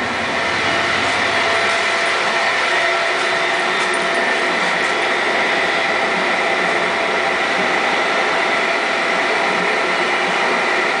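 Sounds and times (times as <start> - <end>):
train whirring and rushing: 0.0 - 11.0.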